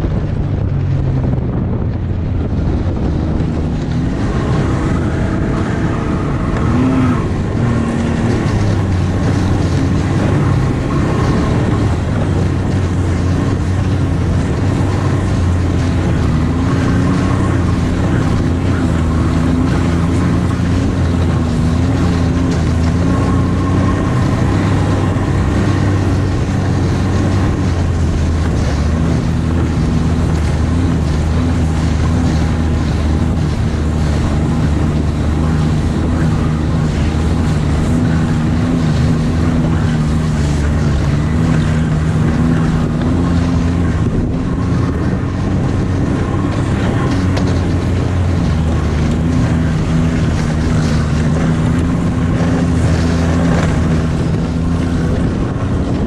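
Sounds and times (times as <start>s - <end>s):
snowmobile engine running: 0.0s - 56.0s
wind on microphone: 0.0s - 56.0s.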